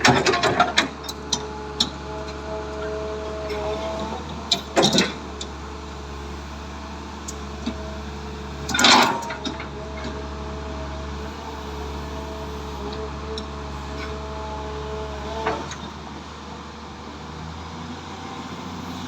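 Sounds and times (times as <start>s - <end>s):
excavator engine idling: 0.0s - 17.4s.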